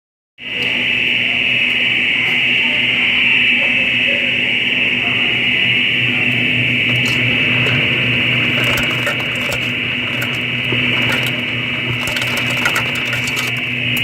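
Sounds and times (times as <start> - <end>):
electronic alarm tone: 0.4 - 14.0.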